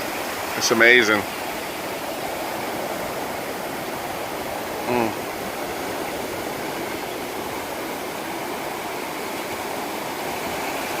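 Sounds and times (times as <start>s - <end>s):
beach surf rushing: 0.0s - 11.0s.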